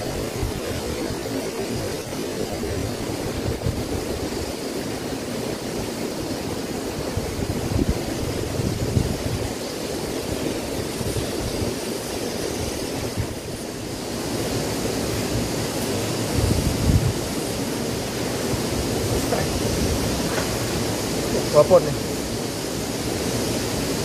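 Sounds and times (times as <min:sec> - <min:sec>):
water rushing from a small cascade: 0:00.0 - 0:24.0
wind buffeting the microphone: 0:00.0 - 0:24.0.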